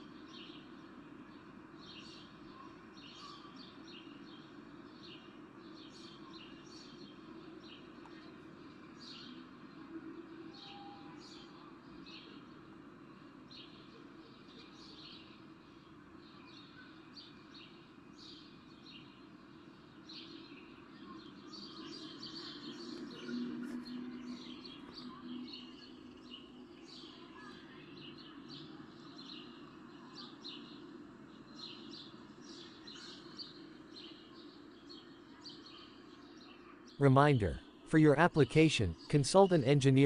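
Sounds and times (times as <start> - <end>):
faint birds chirping: 0.0 - 40.0.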